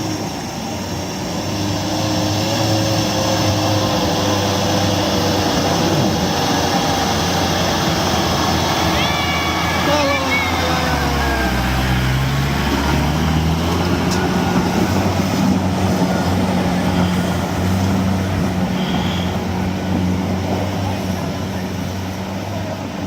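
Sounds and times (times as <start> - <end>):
vehicle engine running steadily: 0.0 - 23.0.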